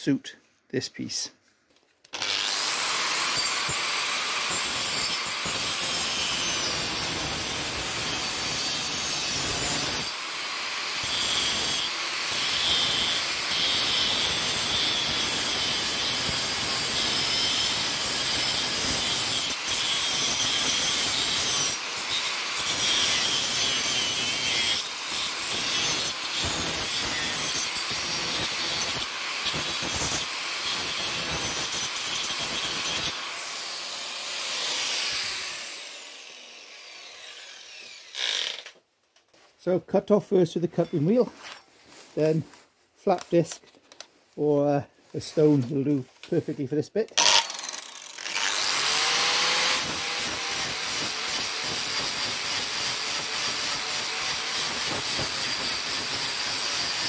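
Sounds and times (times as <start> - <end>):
angle grinder cutting steel: 2.1 - 38.8, 47.2 - 57.0.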